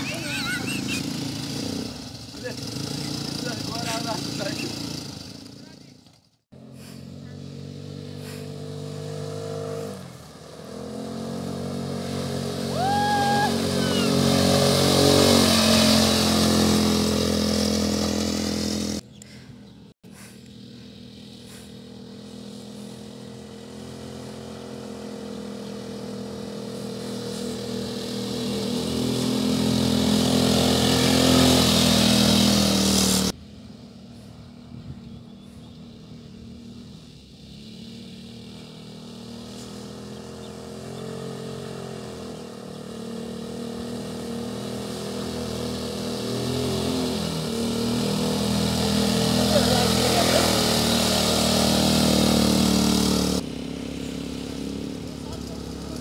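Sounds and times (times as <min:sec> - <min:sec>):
quad bike engines running: 0:00.0 - 0:56.0.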